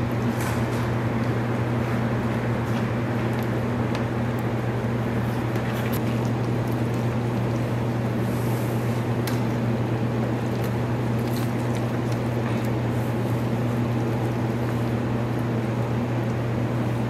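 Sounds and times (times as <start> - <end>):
low mechanical hum: 0.0 - 17.0
wet squishing: 1.2 - 15.5.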